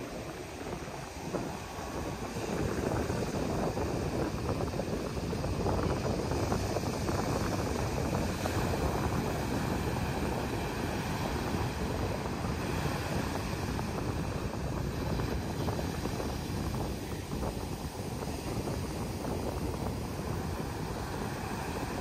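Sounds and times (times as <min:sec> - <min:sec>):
sea surf breaking: 0:00.0 - 0:22.0
wind rumbling on microphone: 0:00.0 - 0:22.0.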